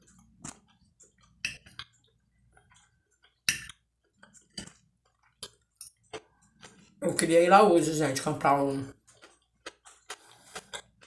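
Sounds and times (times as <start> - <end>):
person chewing with wet smacks: 0.0 - 7.3, 8.9 - 11.0.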